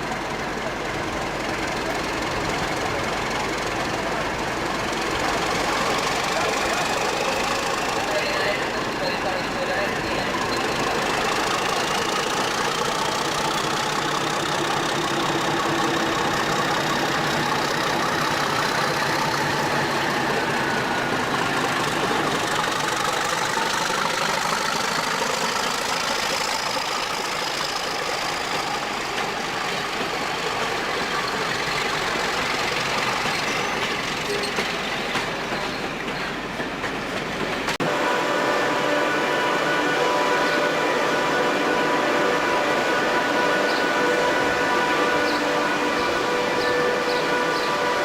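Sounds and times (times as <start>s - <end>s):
diesel train engine running: 0.0s - 48.0s.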